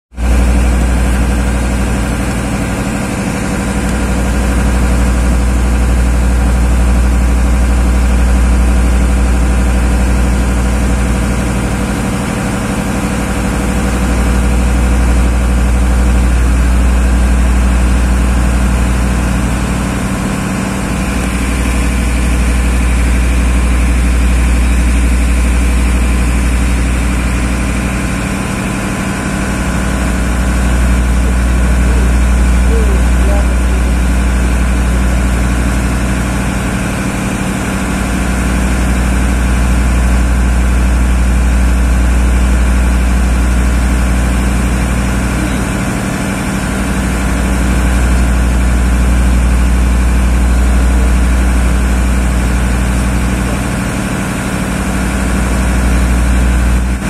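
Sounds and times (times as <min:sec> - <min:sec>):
tugboat engine droning: 0:00.1 - 0:57.0.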